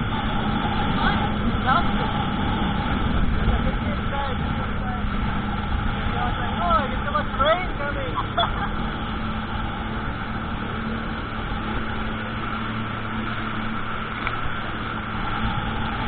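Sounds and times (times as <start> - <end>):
jet ski engine droning: 0.0 - 16.0
water rushing: 0.0 - 16.0
wind: 0.0 - 16.0.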